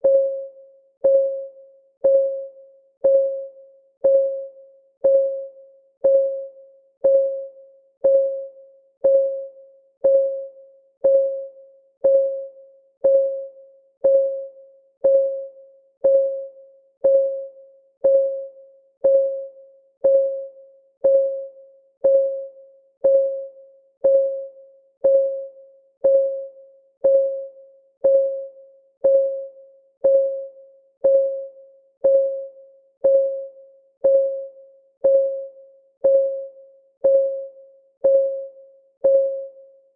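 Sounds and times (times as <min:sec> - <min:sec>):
countdown timer ticking: 0:02.0 - 0:02.4, 0:03.0 - 0:04.4, 0:05.0 - 0:39.6.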